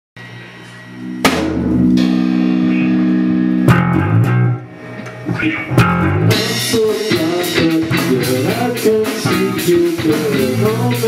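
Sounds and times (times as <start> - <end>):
electric guitar chords: 0.2 - 11.0
bass line: 0.9 - 11.0.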